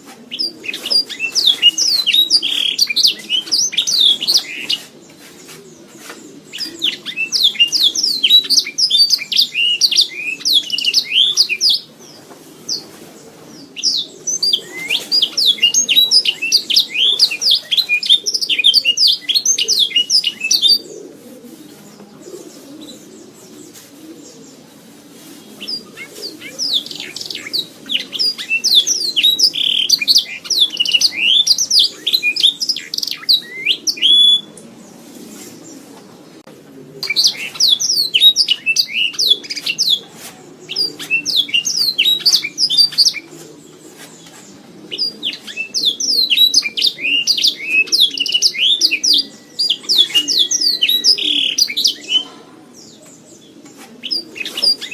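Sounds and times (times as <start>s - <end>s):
canary singing: 0.0s - 21.6s, 25.5s - 34.7s, 36.4s - 54.9s.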